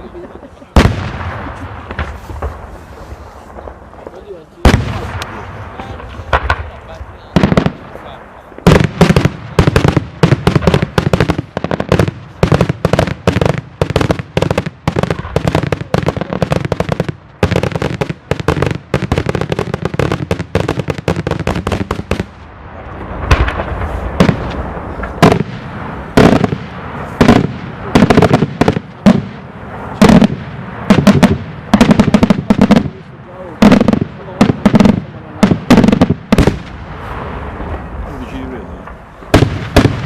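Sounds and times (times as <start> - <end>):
fireworks bangs and cracks: 0.0 - 40.0
fireworks booms: 0.7 - 40.0.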